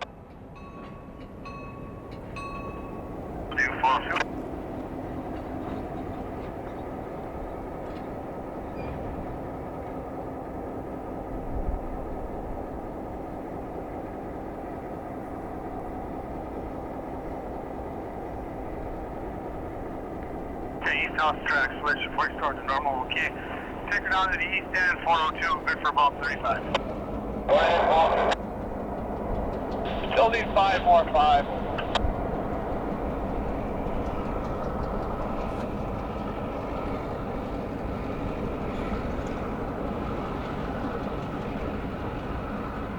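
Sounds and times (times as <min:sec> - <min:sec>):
diesel locomotive running: 0:00.0 - 0:42.9.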